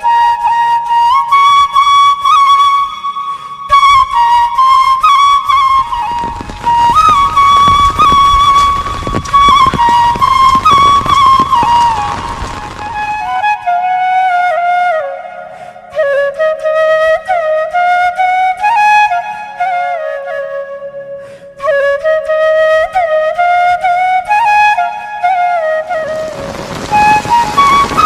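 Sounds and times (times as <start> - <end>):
solo flute melody: 0.0 - 28.0.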